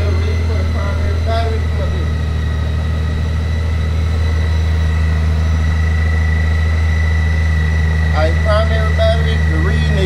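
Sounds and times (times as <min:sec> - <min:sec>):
motorcycle engine idling: 0:00.0 - 0:10.0
thin high whine: 0:00.0 - 0:10.0.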